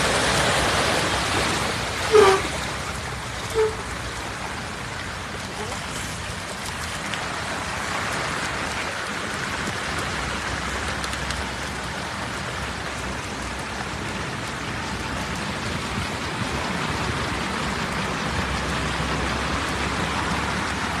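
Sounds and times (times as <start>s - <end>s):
heavy rain on street: 0.0s - 21.0s.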